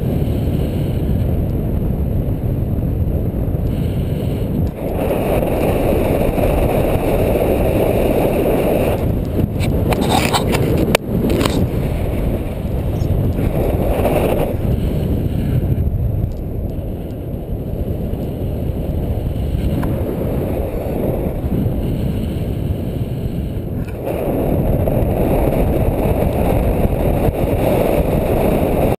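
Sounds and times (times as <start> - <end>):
wind rushing over microphone: 0.0 - 28.9.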